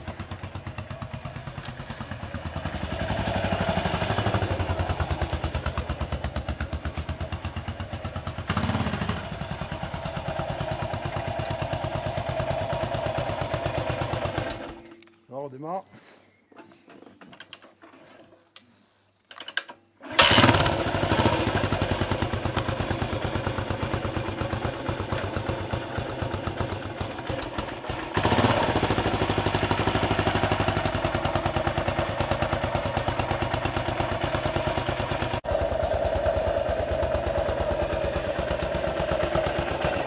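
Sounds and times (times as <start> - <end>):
motorcycle engine starting and idling: 0.0 - 15.2, 19.3 - 40.0.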